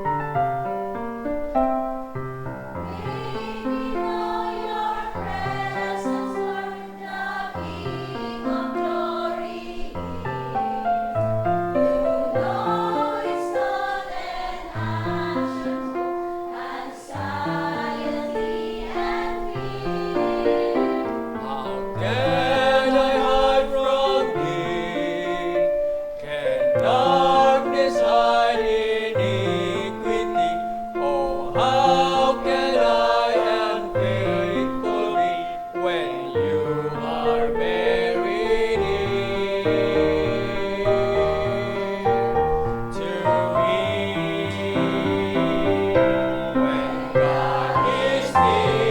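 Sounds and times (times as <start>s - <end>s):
choir singing a hymn: 2.7s - 48.9s.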